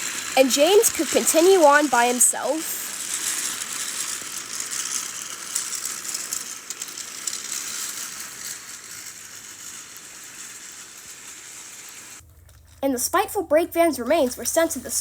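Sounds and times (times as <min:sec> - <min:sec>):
toy train rattling clicking: 0:00.0 - 0:13.2, 0:13.9 - 0:15.0.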